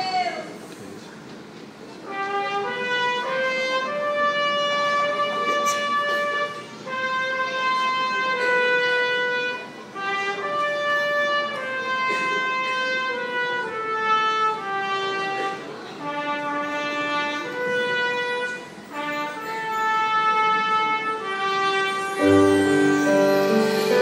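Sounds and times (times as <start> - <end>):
slow brass-like melody: 2.0 - 24.0.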